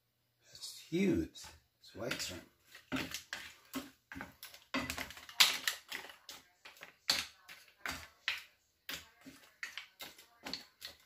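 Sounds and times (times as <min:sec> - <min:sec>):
spoon and shells clacking in pan: 0:02.0 - 0:11.0.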